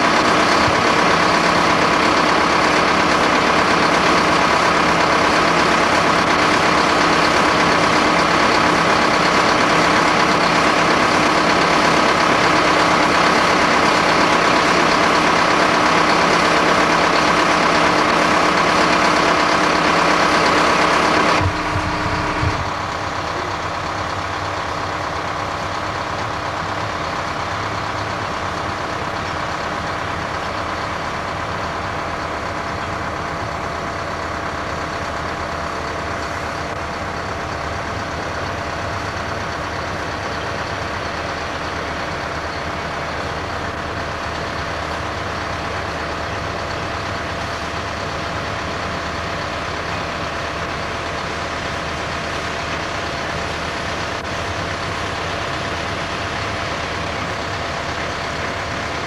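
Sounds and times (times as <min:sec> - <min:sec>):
diesel engines droning: 0:00.0 - 0:59.0.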